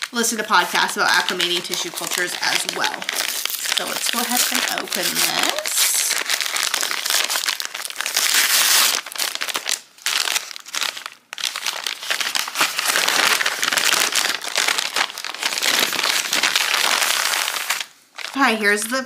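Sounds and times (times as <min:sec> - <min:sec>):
paper bag crinkling: 0:00.0 - 0:18.6.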